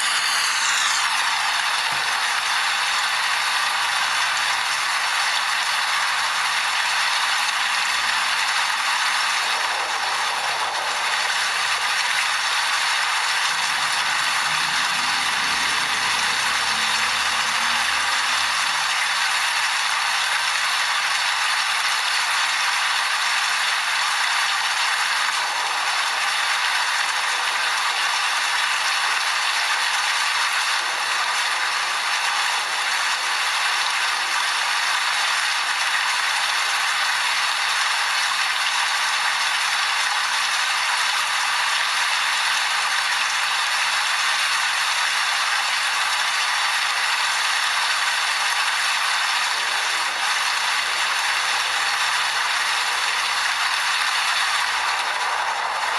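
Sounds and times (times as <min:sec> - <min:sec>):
steady rain falling: 0:01.0 - 0:55.9.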